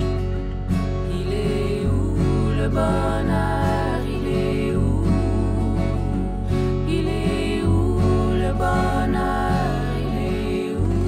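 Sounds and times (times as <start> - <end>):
acoustic guitar instrumental music: 0.0 - 11.0.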